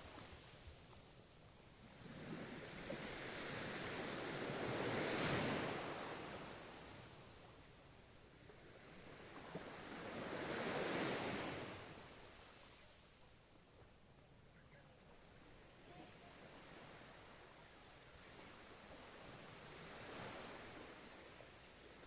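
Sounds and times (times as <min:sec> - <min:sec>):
ocean waves breaking: 0:01.8 - 0:12.8, 0:15.1 - 0:22.0.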